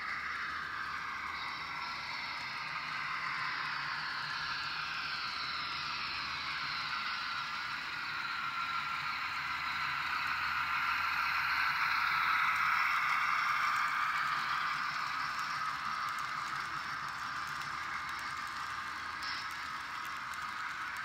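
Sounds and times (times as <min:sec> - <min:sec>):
model train wheels clattering: 0:00.0 - 0:21.0.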